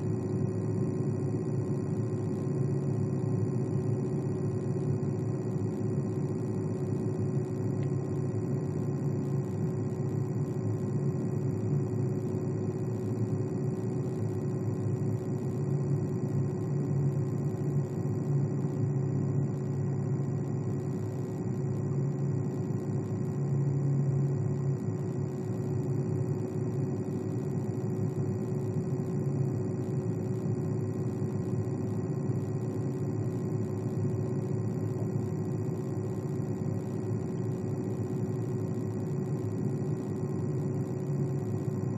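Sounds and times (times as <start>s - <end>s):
computer cooling fan running: 0.0s - 41.9s.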